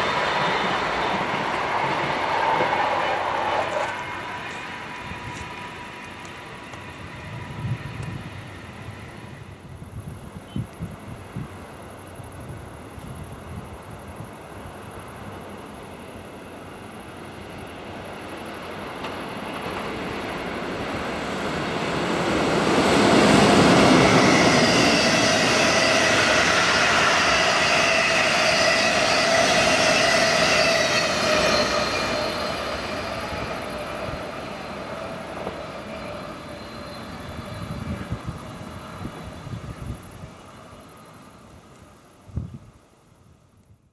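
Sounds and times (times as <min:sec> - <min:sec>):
train whine: 0:00.0 - 0:42.4
train wheels rumbling on rails: 0:00.0 - 0:42.6.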